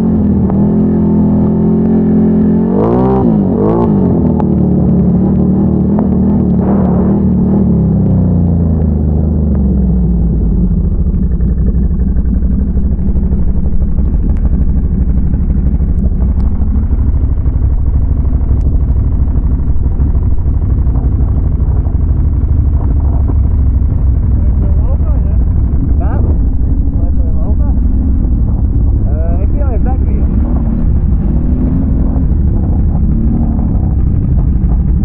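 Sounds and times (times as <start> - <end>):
atv engine rumbling: 0.0 - 35.0.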